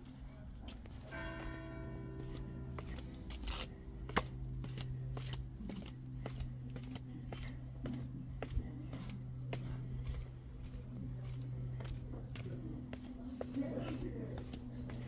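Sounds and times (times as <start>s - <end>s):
steady low hum: 0.0s - 15.0s
footsteps on stone stairs: 0.6s - 15.0s.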